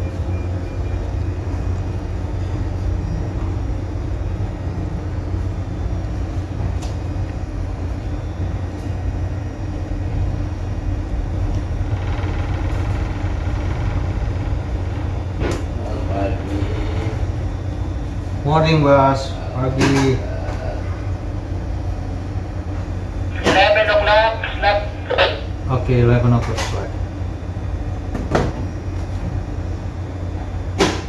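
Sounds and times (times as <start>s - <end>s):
ship engine drone: 0.0s - 19.6s, 20.2s - 28.1s.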